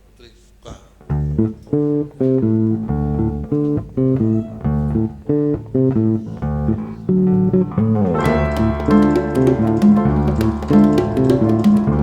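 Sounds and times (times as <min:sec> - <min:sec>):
live band music: 0:01.1 - 0:12.0.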